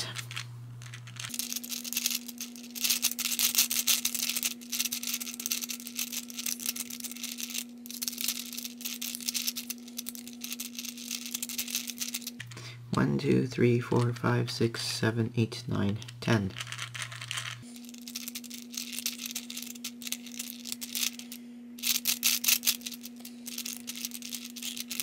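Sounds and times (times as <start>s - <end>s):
plastic puzzle balls clicking: 0.0s - 12.5s, 15.9s - 21.2s, 21.8s - 25.0s.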